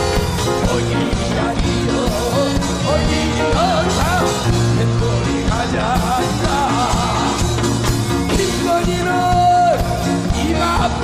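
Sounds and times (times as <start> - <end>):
bass guitar: 0.0 - 11.0
drum kit: 0.0 - 11.0
person singing with vibrato: 0.0 - 11.0.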